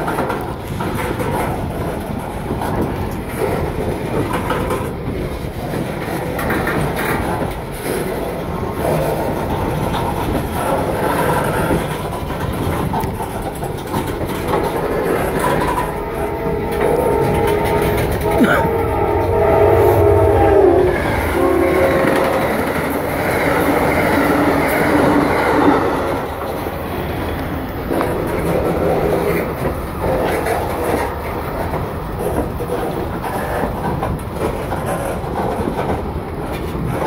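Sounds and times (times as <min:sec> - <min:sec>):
rumble of steel wheels on rail: 0:00.0 - 0:37.0
wheels clacking over rail joints: 0:00.0 - 0:37.0.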